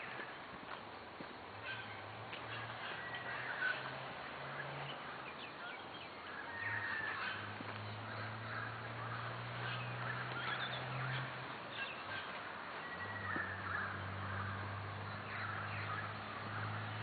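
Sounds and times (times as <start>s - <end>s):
birds calling and chirping: 0.0s - 17.0s.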